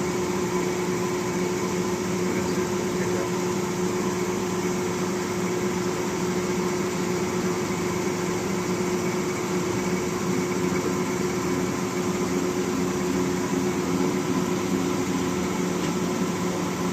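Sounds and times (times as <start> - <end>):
grinding machine humming: 0.0 - 16.9.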